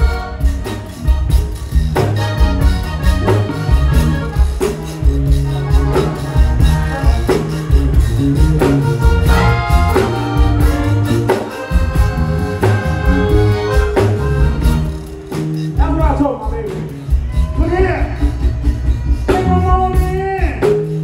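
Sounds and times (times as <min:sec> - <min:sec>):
accordion lead: 0:00.0 - 0:21.0
bass: 0:00.0 - 0:21.0
drums with steady beat: 0:00.0 - 0:21.0.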